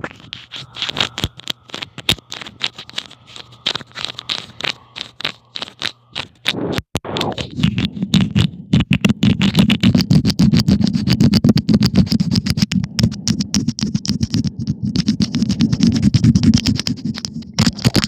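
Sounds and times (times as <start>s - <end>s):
faint steady hum: 0.0s - 17.3s
rapid scratching and clicking: 0.0s - 18.0s.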